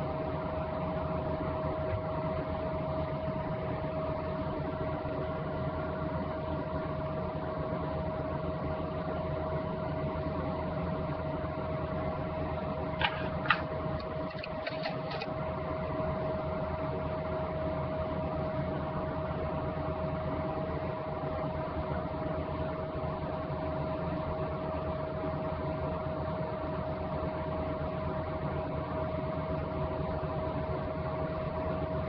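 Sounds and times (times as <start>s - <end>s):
steady appliance hum: 0.0s - 32.0s.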